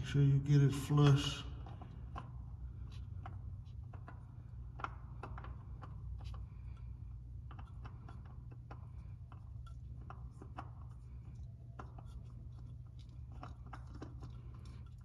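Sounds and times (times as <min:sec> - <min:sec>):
steady low hum: 0:00.0 - 0:15.0
oil filter parts clicking: 0:01.5 - 0:15.0.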